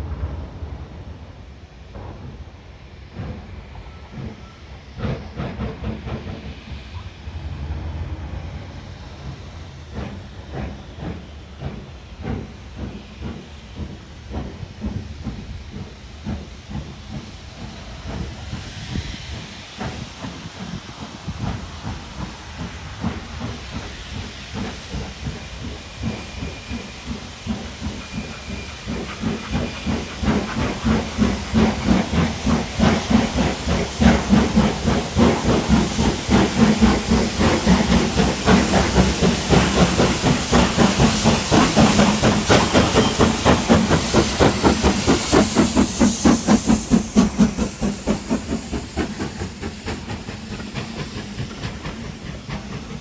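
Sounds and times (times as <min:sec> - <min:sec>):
steam locomotive chuffing: 0:00.0 - 0:53.0
hissing steam: 0:01.7 - 0:53.0.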